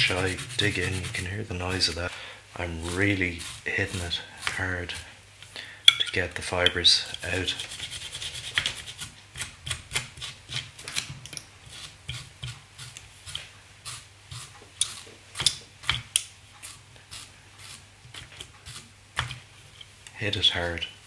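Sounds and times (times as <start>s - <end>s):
brush scratching fibres: 0.0s - 5.2s, 6.4s - 11.0s, 11.6s - 19.6s.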